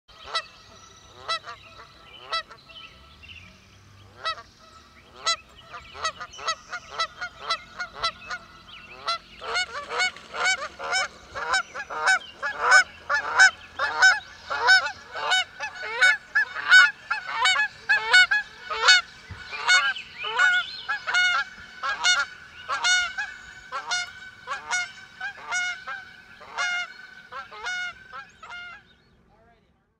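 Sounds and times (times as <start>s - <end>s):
geese honking: 0.1s - 3.0s, 4.0s - 28.9s.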